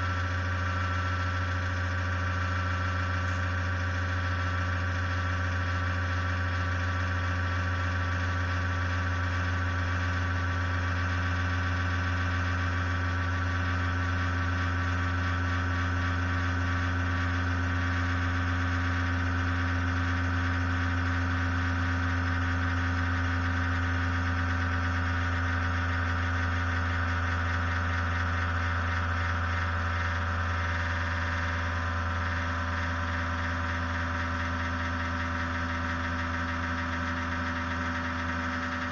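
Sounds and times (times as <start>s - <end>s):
power supply low hum: 0.0s - 38.9s.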